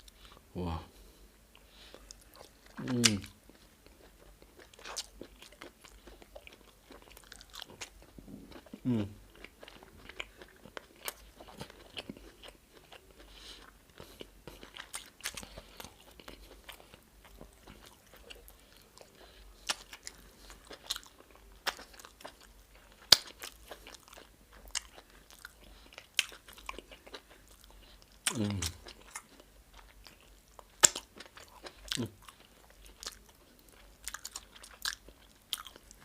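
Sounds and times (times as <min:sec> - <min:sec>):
person chewing food: 0:01.5 - 0:36.0.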